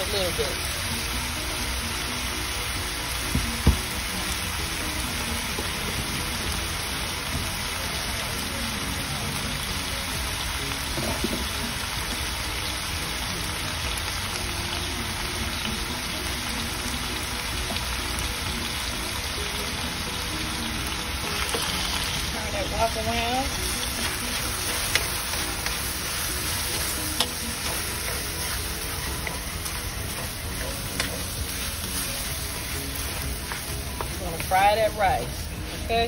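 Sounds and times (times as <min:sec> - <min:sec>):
rice sizzling in a wok: 0:00.0 - 0:36.0.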